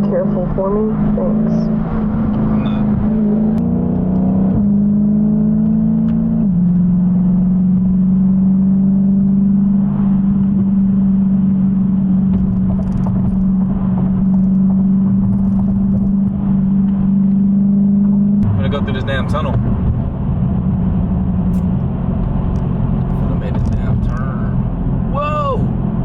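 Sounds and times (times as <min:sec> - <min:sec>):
car engine drone from inside: 0:00.0 - 0:26.0.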